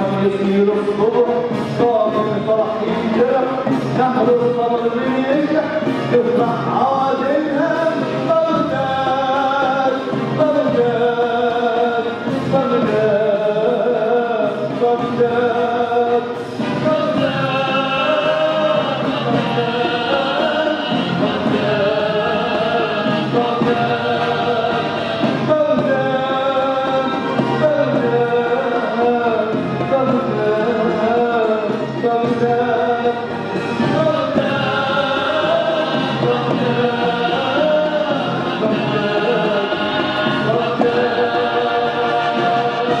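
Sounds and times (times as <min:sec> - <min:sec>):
symphony orchestra: 0:00.0 - 0:43.0
choir singing held notes: 0:00.8 - 0:43.0.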